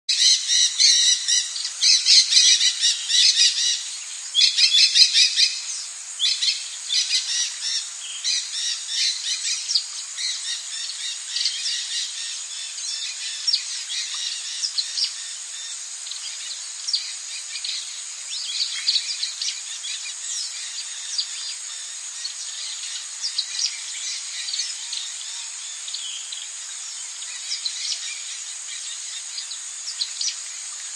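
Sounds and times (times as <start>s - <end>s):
small songbirds chirping: 0.1s - 30.9s.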